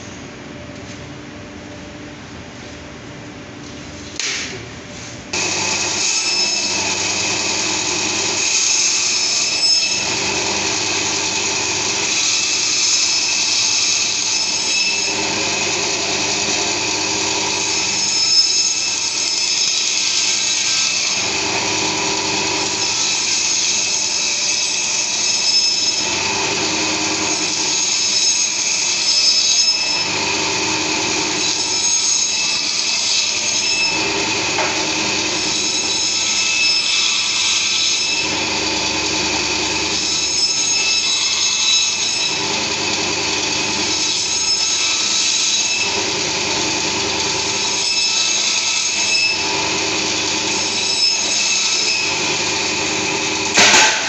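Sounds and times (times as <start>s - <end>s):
meat bandsaw cutting: 5.3s - 54.0s.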